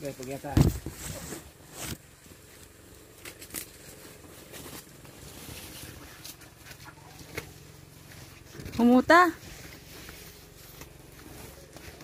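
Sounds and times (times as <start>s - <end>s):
footsteps on leaf litter: 0.0s - 12.0s
leaves rustling: 0.0s - 12.0s.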